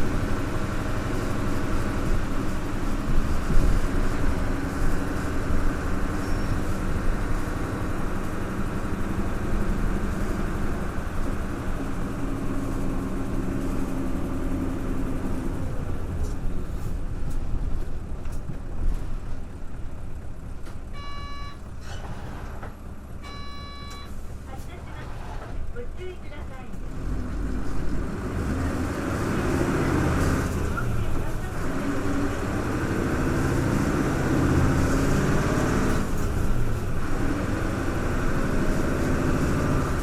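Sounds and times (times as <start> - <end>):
bus diesel engine under load: 0.0 - 40.0.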